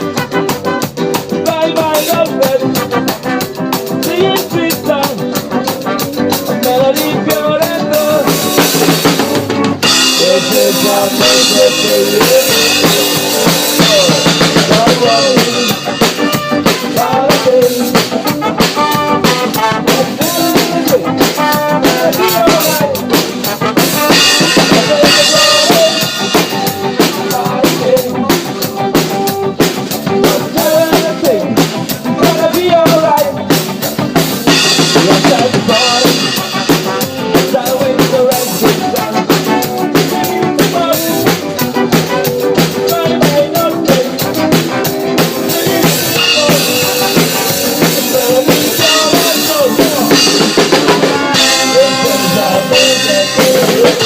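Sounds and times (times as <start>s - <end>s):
band music: 0.0s - 54.0s
drum kit beat: 0.0s - 54.0s.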